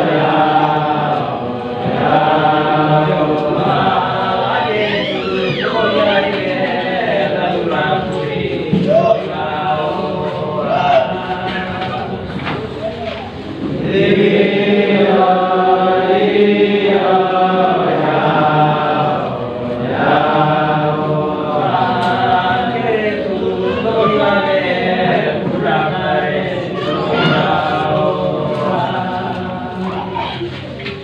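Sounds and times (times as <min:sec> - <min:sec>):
men singing unaccompanied: 0:00.0 - 0:12.8, 0:13.7 - 0:30.2.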